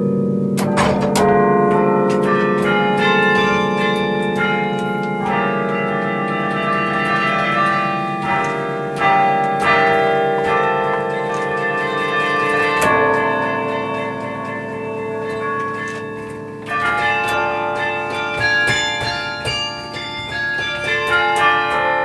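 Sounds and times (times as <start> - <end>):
carillon bells melody: 0.0 - 22.0.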